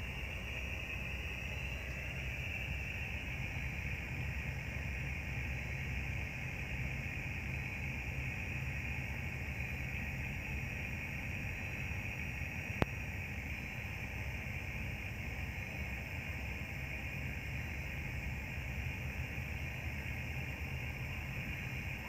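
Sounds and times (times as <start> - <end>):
vessel machinery rumble and hiss: 0.0 - 22.0.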